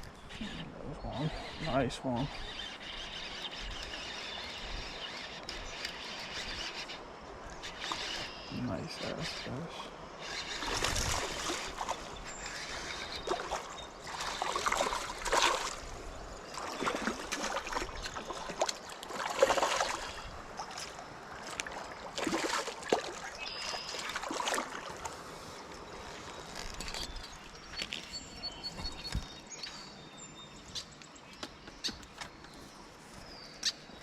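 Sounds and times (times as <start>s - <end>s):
creek water splashing: 0.0s - 29.2s.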